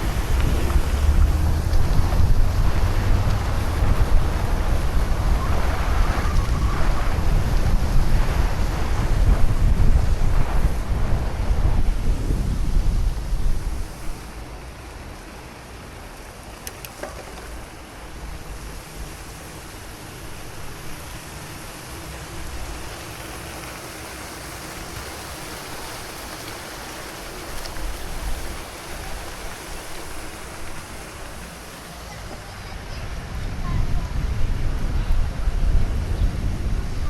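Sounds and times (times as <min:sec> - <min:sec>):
sea washing: 0:00.0 - 0:37.0.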